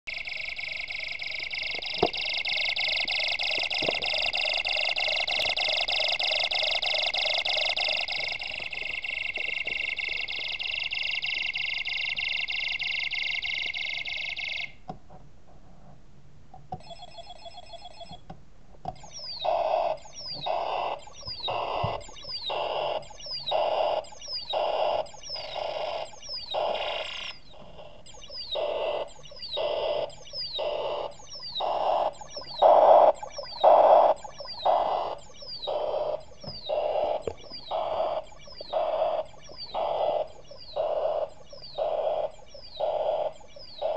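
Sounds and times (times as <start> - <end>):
electronic warble: 0.1 - 14.8, 19.0 - 43.9
high falling chirp and beep: 0.1 - 14.8, 16.8 - 18.2, 19.0 - 43.9
phone-like electronic ring: 0.1 - 14.8, 16.8 - 18.2, 19.0 - 27.4, 28.1 - 43.9.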